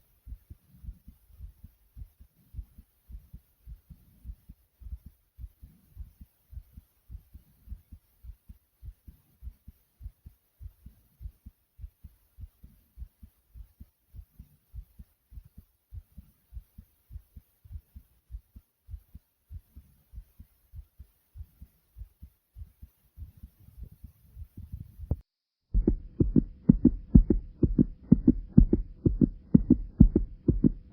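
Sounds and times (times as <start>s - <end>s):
fast heartbeat thumps: 0.1s - 25.2s, 25.8s - 30.9s.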